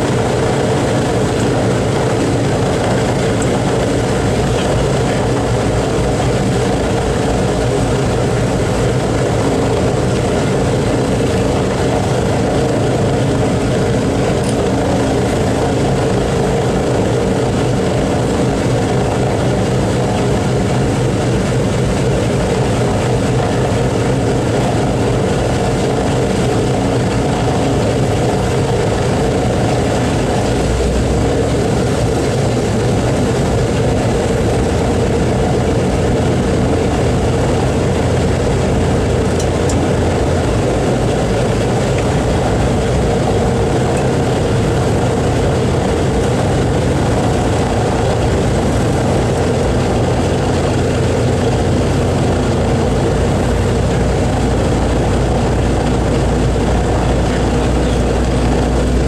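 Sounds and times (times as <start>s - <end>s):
propeller aircraft engines droning: 0.0s - 59.0s.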